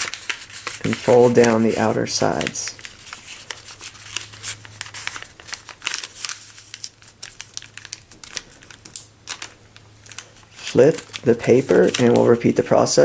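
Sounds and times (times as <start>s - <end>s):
faint steady hum: 0.0s - 13.0s
paper being folded and creased: 0.0s - 13.0s.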